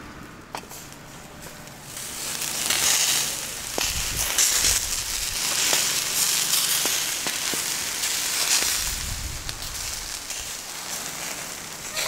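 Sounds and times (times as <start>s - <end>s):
sharp crackles: 0.2s - 12.0s
vegetables sizzling over charcoal: 0.7s - 12.0s.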